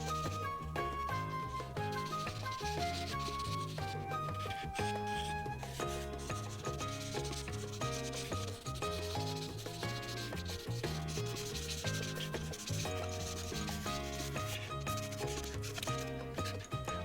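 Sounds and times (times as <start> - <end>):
marker rubbing on paper: 0.0 - 0.5, 1.8 - 16.8
background music with bass: 0.0 - 17.0.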